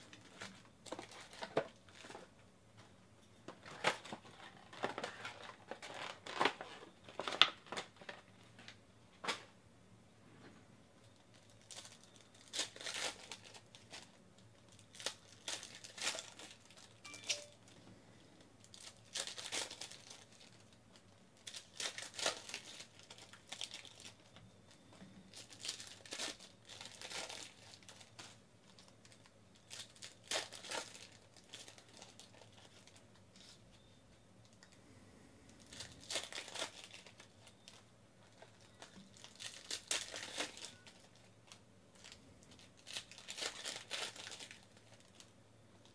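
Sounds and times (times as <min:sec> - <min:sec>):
foil wrappers torn and crinkled: 0:00.0 - 0:02.3, 0:03.6 - 0:08.8, 0:11.1 - 0:17.5, 0:18.6 - 0:24.4, 0:25.3 - 0:33.6, 0:35.6 - 0:45.9.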